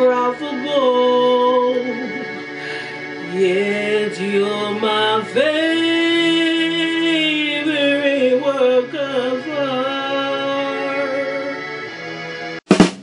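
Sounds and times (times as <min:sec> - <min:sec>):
person singing song: 0:00.0 - 0:12.3.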